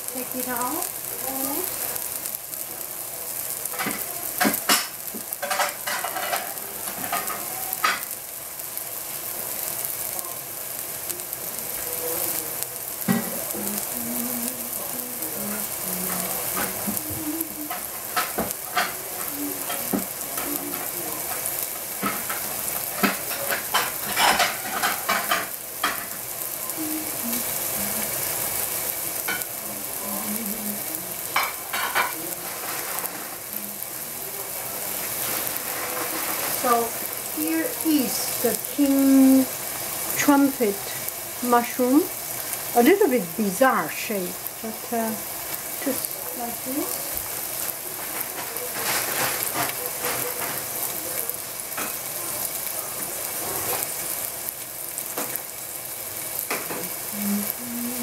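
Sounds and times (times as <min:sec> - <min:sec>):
food sizzling in hot oil: 0:00.0 - 0:58.0
oil popping and crackling: 0:00.0 - 0:58.0.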